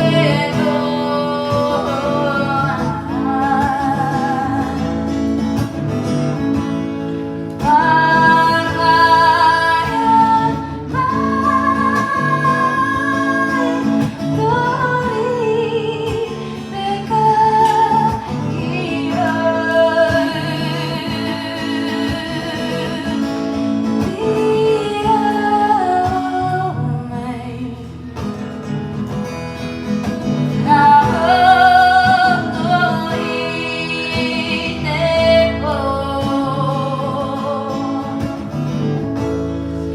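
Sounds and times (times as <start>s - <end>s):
woman singing: 0.0s - 6.8s, 7.5s - 28.6s, 30.1s - 39.1s
acoustic guitar strumming: 0.0s - 39.9s.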